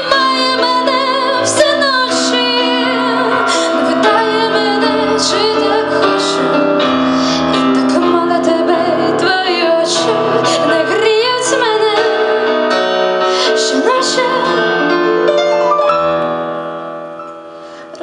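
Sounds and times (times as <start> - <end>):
woman singing: 0.0 - 15.2
keyboard accompaniment: 0.0 - 18.0.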